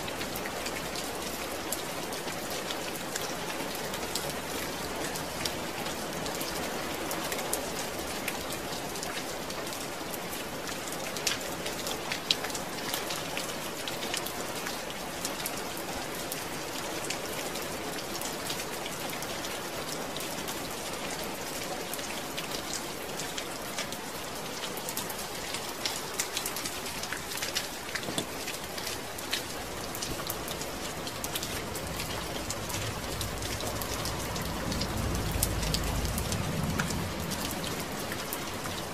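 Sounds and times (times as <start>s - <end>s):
raindrops pattering on surface: 0.0s - 38.9s
steady rain hiss: 0.0s - 38.9s.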